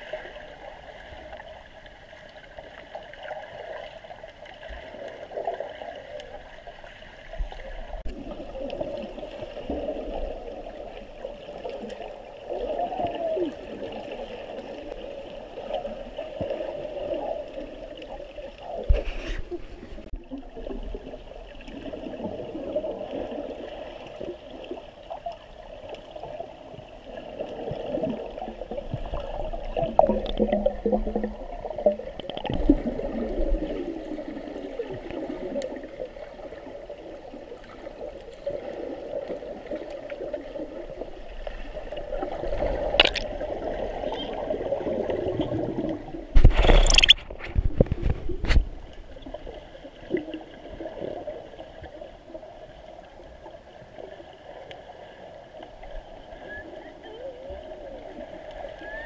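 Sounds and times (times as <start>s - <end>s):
water gurgling and splashing: 0.0s - 59.0s.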